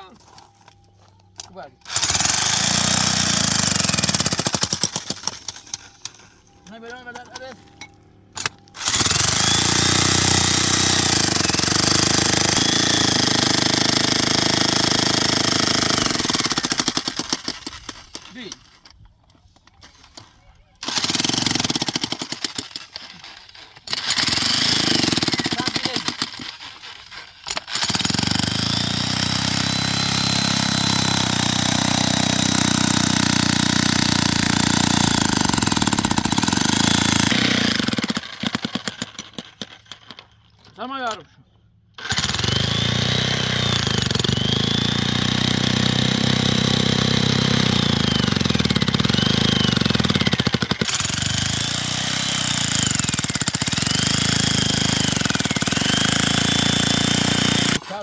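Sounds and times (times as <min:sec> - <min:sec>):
small engine pulsing: 0:01.8 - 0:06.8, 0:08.0 - 0:18.3, 0:22.5 - 0:38.6, 0:42.0 - 0:58.0.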